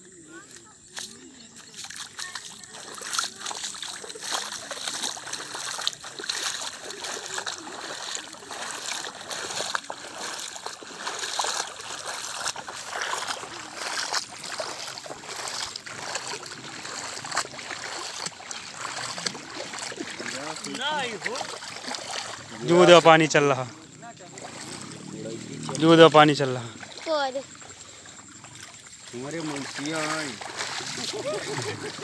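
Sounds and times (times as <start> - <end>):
splashing footsteps in water: 0.0 - 32.0
water running and trickling: 0.3 - 32.0.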